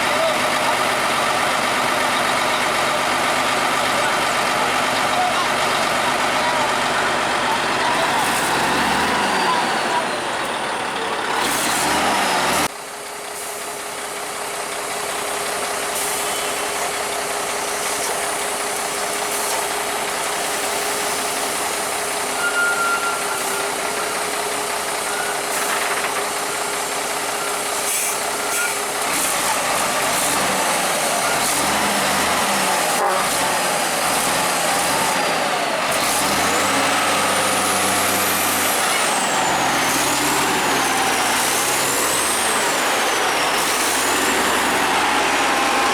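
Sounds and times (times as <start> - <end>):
heavy trucks engine and road noise: 0.0 - 45.9.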